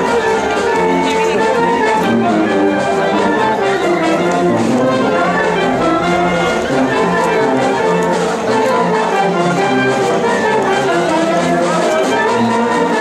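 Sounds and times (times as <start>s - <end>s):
brass band playing dance music: 0.0s - 13.0s.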